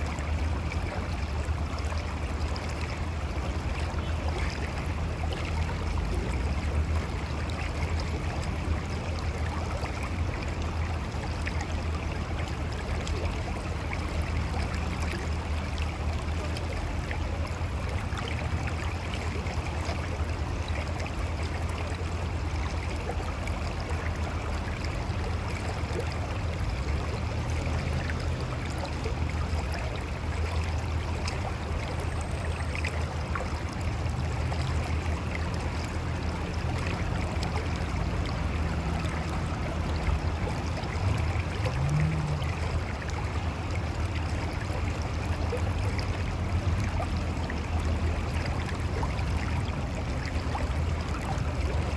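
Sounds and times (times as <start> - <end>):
river flowing over rocks: 0.0 - 51.9.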